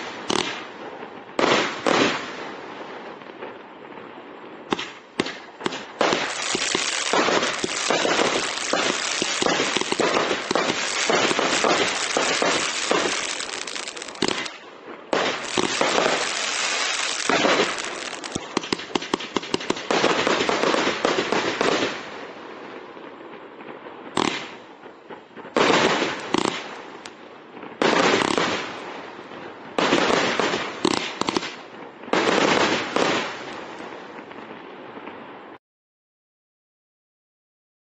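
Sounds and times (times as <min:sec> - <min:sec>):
fireworks barrage bangs: 0:00.0 - 0:03.6, 0:04.7 - 0:22.8, 0:23.6 - 0:35.2.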